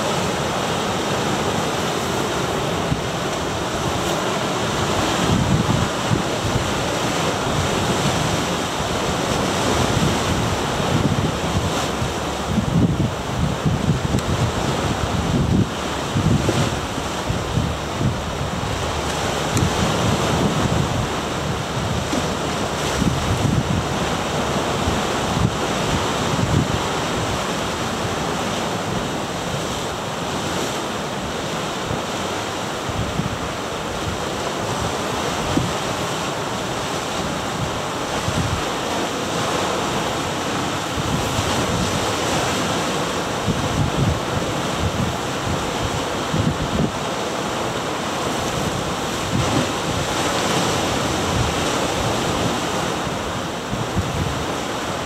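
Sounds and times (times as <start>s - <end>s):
ocean surf washing over rocks: 0.0s - 55.0s
wind buffeting microphone: 0.0s - 55.0s.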